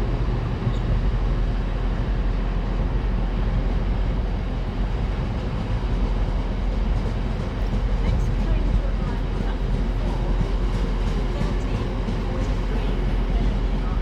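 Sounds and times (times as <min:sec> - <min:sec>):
train rumbling: 0:00.0 - 0:14.0
train rushing noise: 0:00.0 - 0:14.0.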